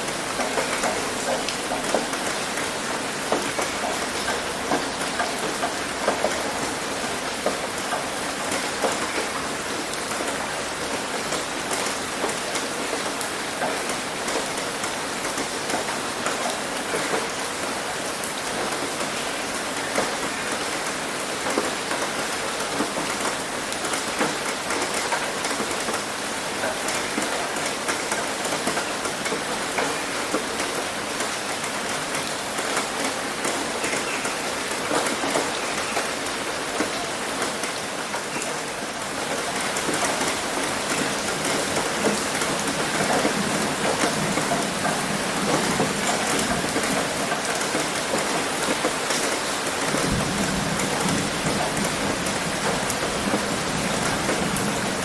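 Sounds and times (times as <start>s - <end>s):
heavy rain drumming on a roof: 0.0s - 55.0s.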